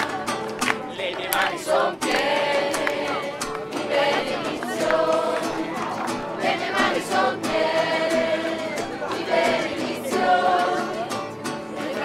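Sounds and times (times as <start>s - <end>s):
group singing in chorus: 0.0s - 12.0s.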